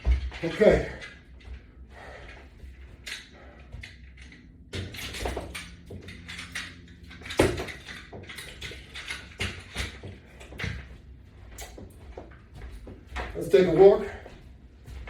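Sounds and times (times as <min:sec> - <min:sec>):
exercise equipment knocking and rattling: 0:00.0 - 0:15.0.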